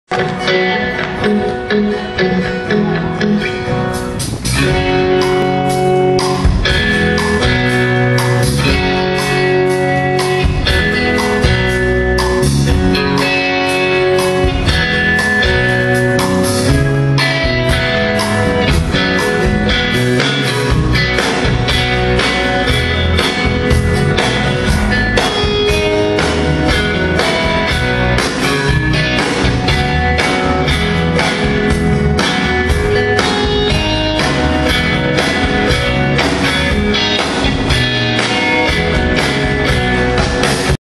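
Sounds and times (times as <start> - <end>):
country band playing: 0.1 - 40.8.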